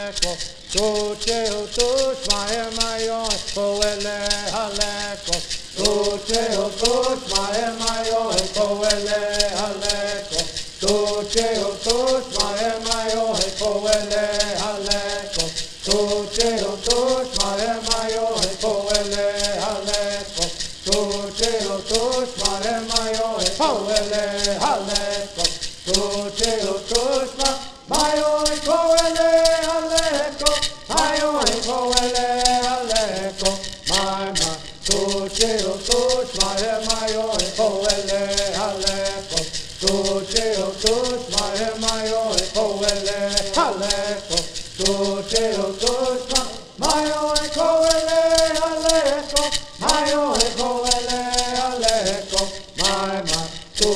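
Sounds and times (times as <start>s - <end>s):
gourd rattles shaking: 0.0s - 53.9s
group of men singing: 0.0s - 53.9s.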